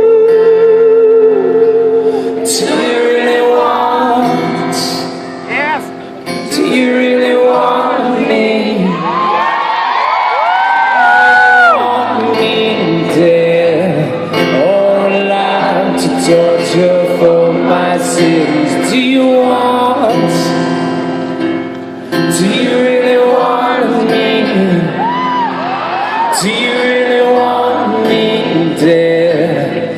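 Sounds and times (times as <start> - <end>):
person singing wordlessly: 0.0 - 9.4, 11.0 - 20.7, 22.2 - 25.1, 26.3 - 29.9
acoustic guitar: 0.0 - 29.9.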